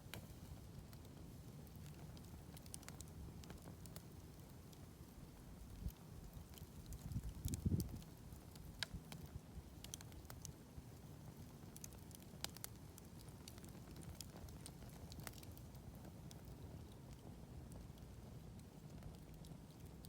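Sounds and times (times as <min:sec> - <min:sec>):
faint campfire crackling: 0:00.0 - 0:20.0.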